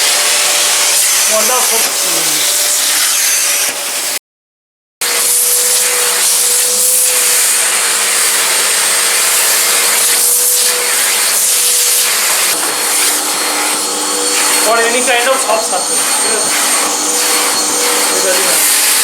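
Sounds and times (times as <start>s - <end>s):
vacuum cleaner running: 0.0s - 4.2s, 5.0s - 19.0s.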